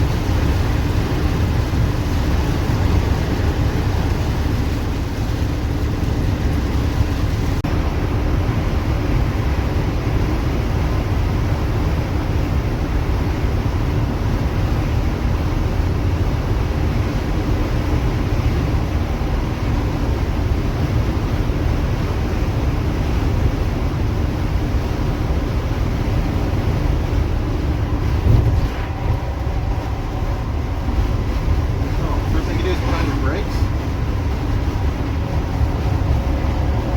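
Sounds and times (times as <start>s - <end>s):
bus diesel engine drone: 0.0s - 36.9s
road noise: 0.0s - 36.9s.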